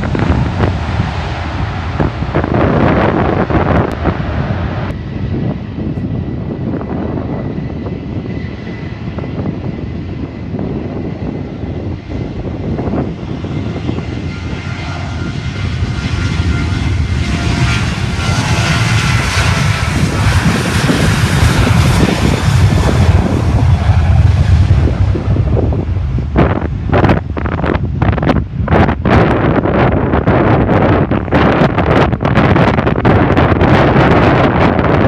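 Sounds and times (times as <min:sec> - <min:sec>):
airplane engines rumbling: 0:00.0 - 0:35.0.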